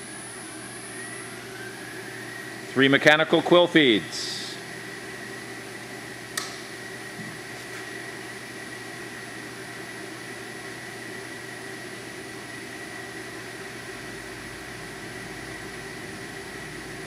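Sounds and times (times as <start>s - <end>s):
milling machine motor humming and whining: 0.0s - 17.0s.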